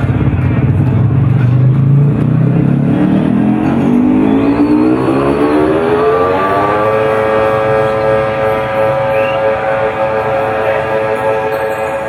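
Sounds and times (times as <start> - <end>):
engine-like revving rising in pitch: 0.8 - 12.0.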